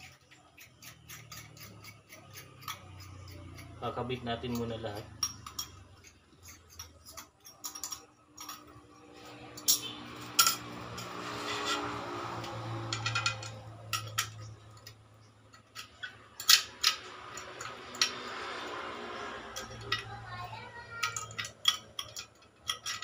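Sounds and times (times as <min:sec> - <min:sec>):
small metal parts clinking: 0:00.0 - 0:23.0.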